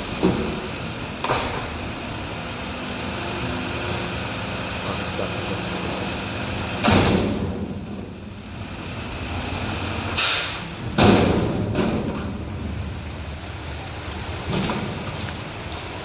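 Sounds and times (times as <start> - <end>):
garbage truck diesel engine running: 0.0 - 16.0.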